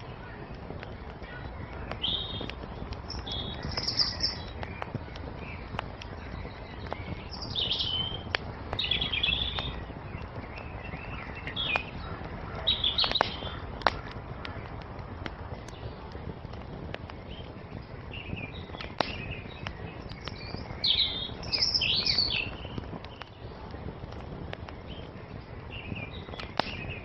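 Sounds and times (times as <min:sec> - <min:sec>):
songbirds chirping: 0:00.0 - 0:27.0
wood fire crackling and popping: 0:00.0 - 0:27.0.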